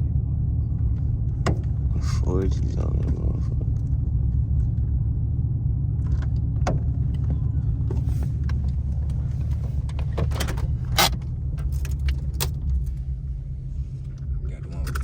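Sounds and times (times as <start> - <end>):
car exhaust deep rumble: 0.0 - 15.0.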